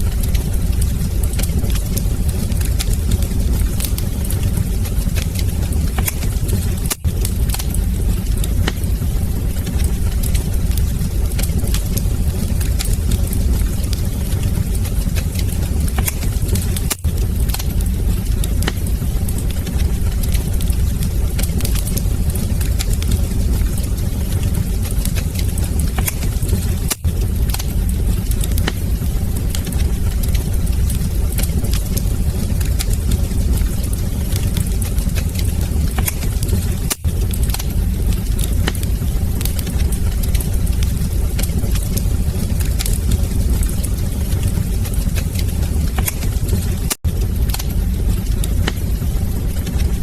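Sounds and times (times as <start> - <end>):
sharp pops and snaps: 0.0 - 49.0
low rumble of flames: 0.0 - 50.0
wood fire crackling: 0.0 - 50.0.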